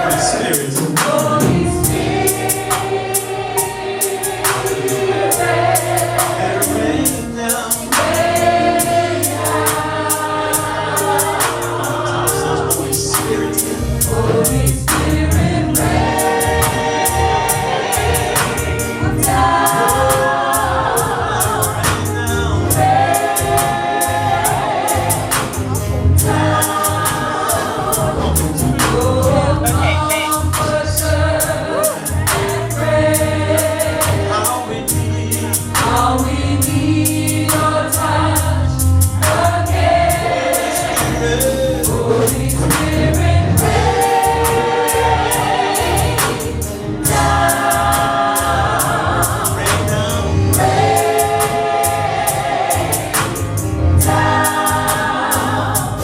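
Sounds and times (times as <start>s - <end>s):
drums and cymbals beat: 0.0s - 56.0s
gospel choir singing: 0.0s - 56.0s
bass line: 1.1s - 56.0s.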